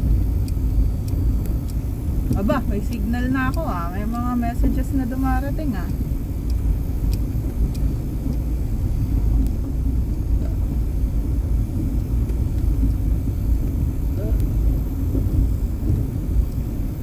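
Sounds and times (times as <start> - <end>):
car engine and tyres rumbling: 0.0 - 17.0
faint ticks: 0.0 - 17.0.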